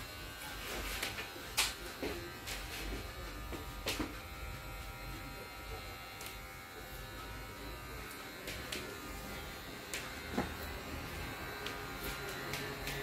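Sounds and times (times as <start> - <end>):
steady electric buzz: 0.0 - 13.0.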